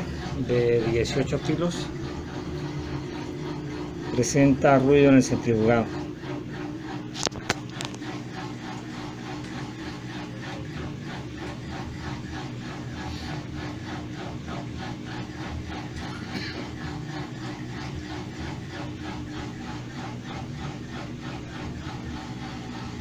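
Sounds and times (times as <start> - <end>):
washing machine grinding spin: 0.0 - 23.0.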